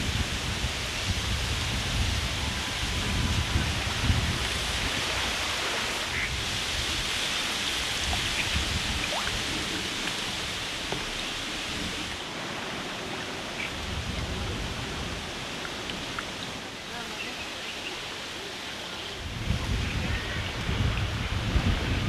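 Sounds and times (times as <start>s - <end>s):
wind rumble on microphone: 0.0s - 17.6s, 19.1s - 22.0s
steady outdoor hiss: 0.0s - 22.0s.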